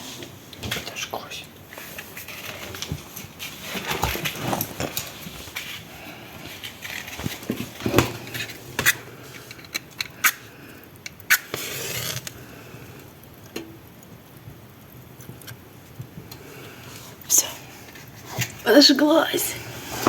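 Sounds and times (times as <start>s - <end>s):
clicks and knocks at fireplace: 0.1s - 18.7s.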